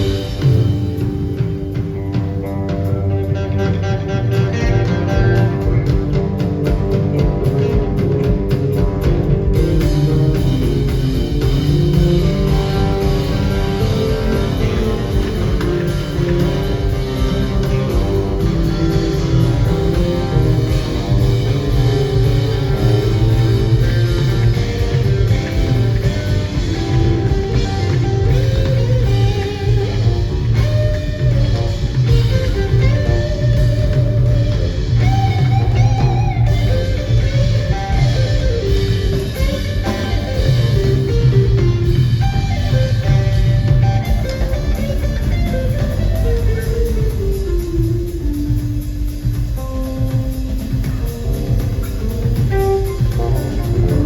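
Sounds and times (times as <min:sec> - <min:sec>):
bass guitar: 0:00.0 - 0:54.0
drum kit: 0:00.0 - 0:54.0
electric guitar: 0:00.0 - 0:54.0.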